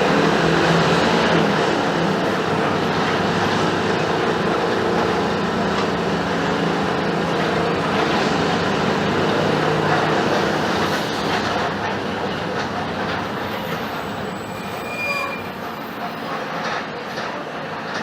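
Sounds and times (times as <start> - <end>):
bus engine hum: 0.0 - 16.7
road and cabin noise: 0.0 - 18.0.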